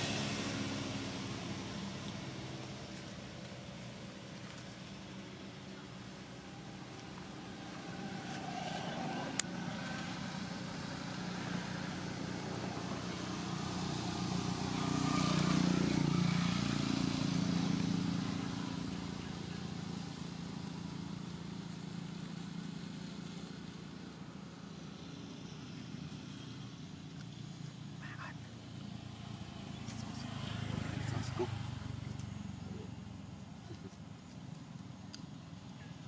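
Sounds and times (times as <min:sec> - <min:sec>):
vehicle engine passing: 0:00.0 - 0:34.3.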